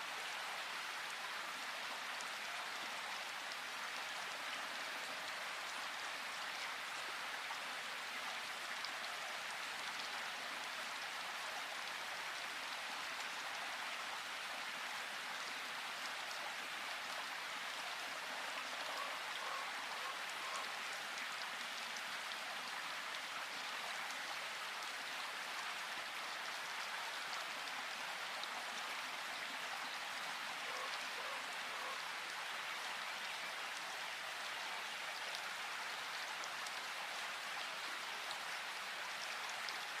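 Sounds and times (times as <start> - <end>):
rain falling in a forest: 0.0 - 40.0.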